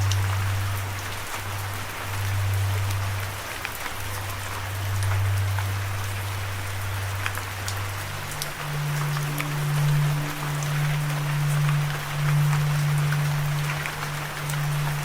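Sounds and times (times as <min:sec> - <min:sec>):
low sustained drone note: 0:00.0 - 0:15.0
raindrops ticking close by: 0:00.0 - 0:15.0
steady rain: 0:00.0 - 0:15.0.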